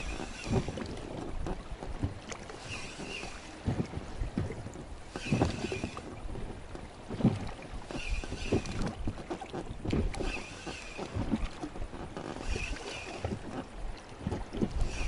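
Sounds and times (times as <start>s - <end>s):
water lapping and splashing: 0.0s - 15.0s
wind buffeting microphone: 0.0s - 15.0s.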